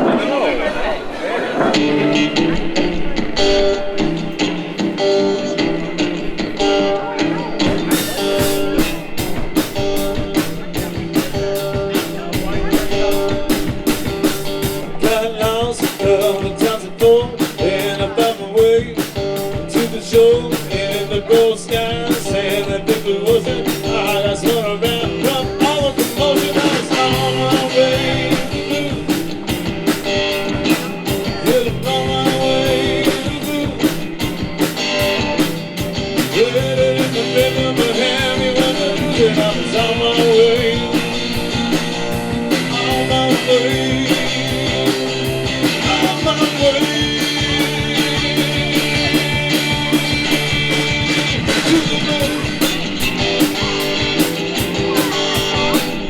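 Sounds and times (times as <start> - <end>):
blues guitar with bent notes: 0.0 - 56.0
bass: 1.8 - 56.0
steady drum beat: 7.6 - 56.0.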